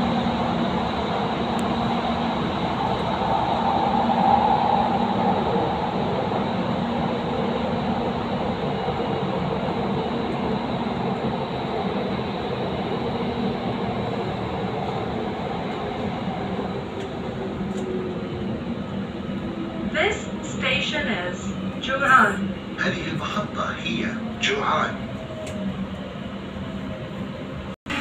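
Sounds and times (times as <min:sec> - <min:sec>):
train wheels rumbling in tunnel: 0:00.0 - 0:28.0.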